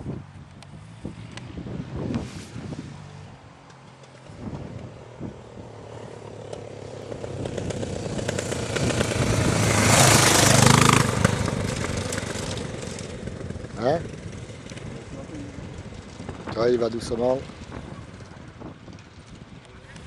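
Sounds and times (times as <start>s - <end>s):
motorcycle engine passing: 0.7s - 20.0s.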